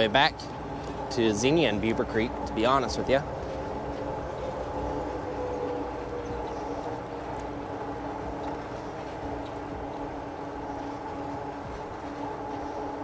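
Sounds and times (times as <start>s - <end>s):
tyre and wind rumble: 0.0s - 13.0s
electric bike motor whine: 0.6s - 13.0s.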